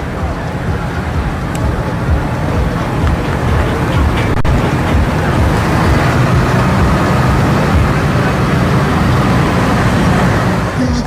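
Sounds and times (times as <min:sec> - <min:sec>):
tractor engine running flat out: 0:00.0 - 0:11.0.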